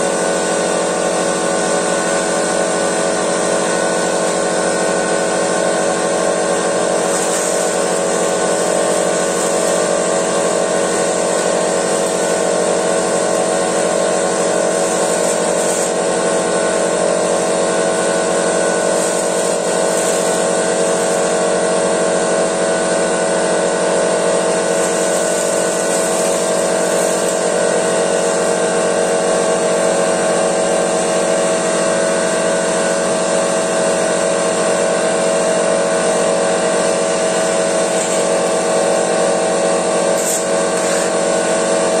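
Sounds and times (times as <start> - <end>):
air compressor running: 0.0 - 42.0.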